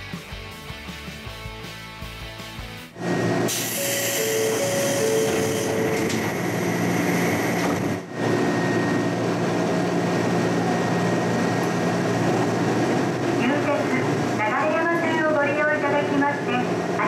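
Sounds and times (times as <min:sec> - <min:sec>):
train hum and drone: 0:03.0 - 0:17.0.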